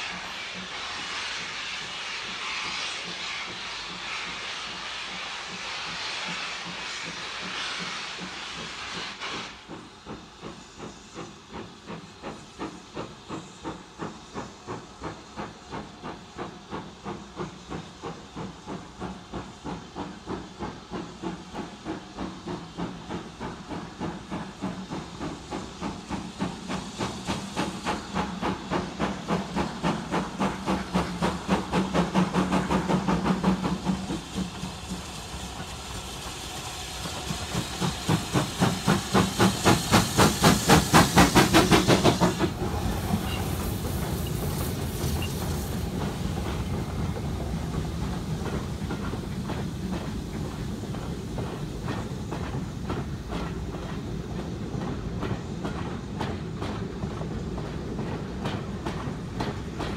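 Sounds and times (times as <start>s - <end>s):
steam hiss: 0.0s - 59.9s
steam locomotives chuffing: 0.0s - 59.9s.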